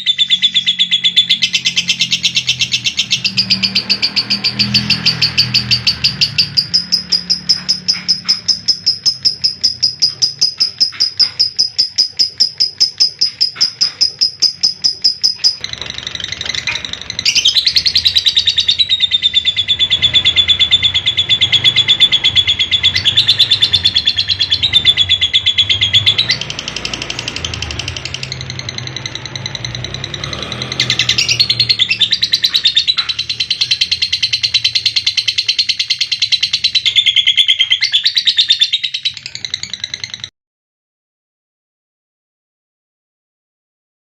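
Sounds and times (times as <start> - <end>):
lovebird chattering: 0.0 - 40.3.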